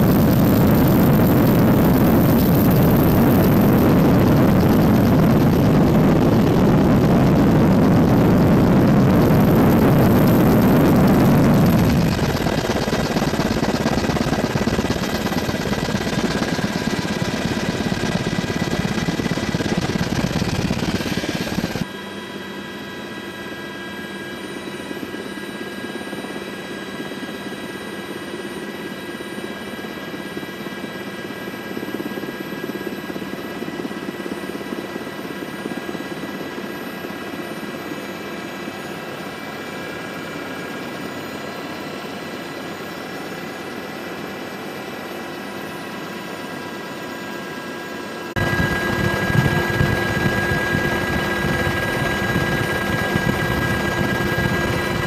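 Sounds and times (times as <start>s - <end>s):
helicopter engine and rotor drone: 0.0s - 55.0s
high constant whining tones: 0.0s - 55.0s.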